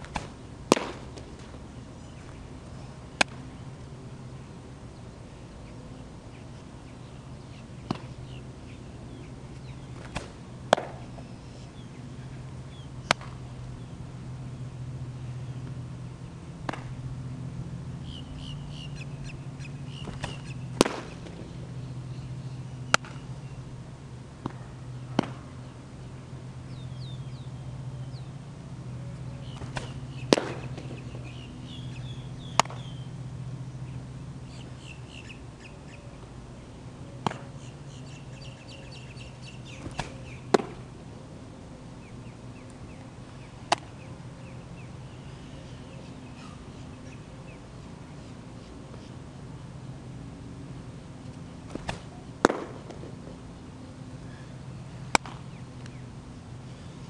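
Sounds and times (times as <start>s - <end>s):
steady low hum: 0.0s - 57.0s
birds chirping: 1.6s - 17.1s, 17.9s - 23.8s, 24.7s - 50.0s.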